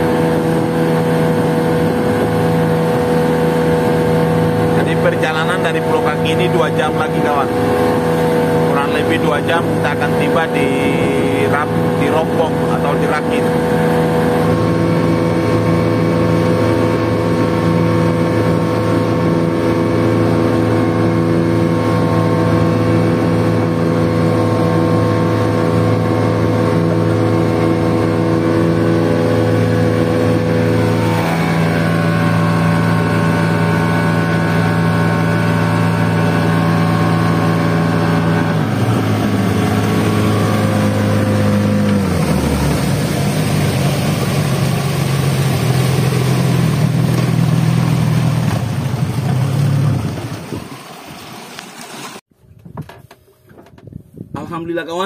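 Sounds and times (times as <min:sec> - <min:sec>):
hull rushing through water: 0:00.0 - 0:52.3
boat motor running: 0:00.0 - 0:55.0.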